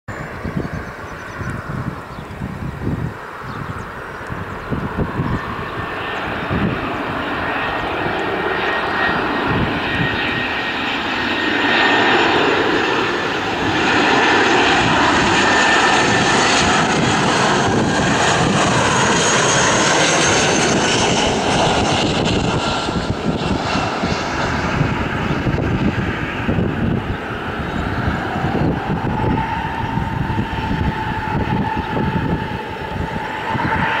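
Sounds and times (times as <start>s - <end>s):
jet engines with high whine: 0.1s - 34.0s.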